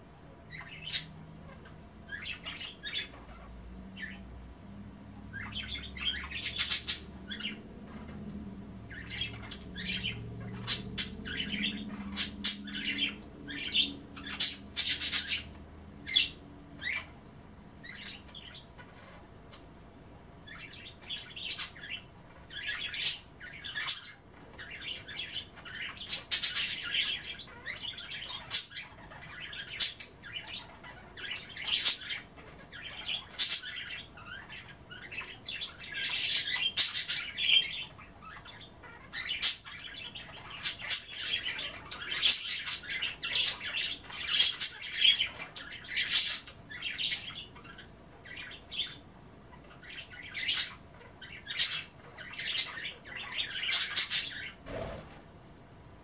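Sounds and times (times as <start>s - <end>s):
budgerigars chirping and squawking: 0.3s - 19.7s, 20.4s - 55.3s.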